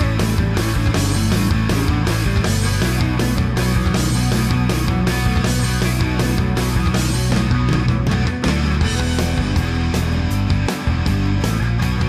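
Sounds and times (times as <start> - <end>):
loud rock music with guitars: 0.0 - 12.0.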